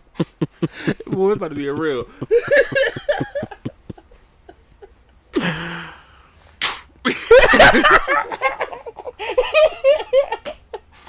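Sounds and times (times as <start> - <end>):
man chuckling: 0.1 - 6.0, 7.1 - 11.0.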